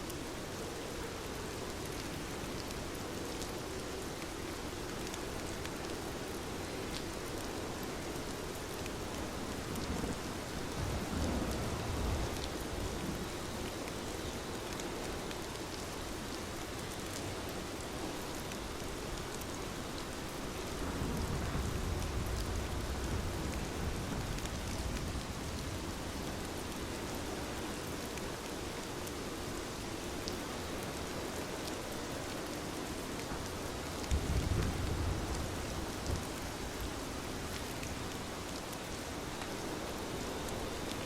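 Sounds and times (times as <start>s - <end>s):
heavy rain falling: 0.1s - 41.0s.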